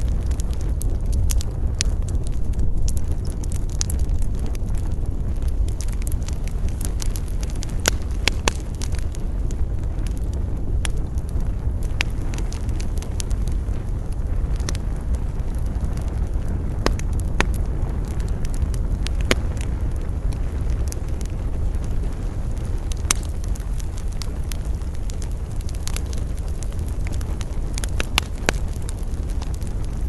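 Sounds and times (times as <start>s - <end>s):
burning wood popping: 0.0s - 30.0s
campfire crackling: 0.0s - 30.0s
low rumble of wind: 0.0s - 30.0s.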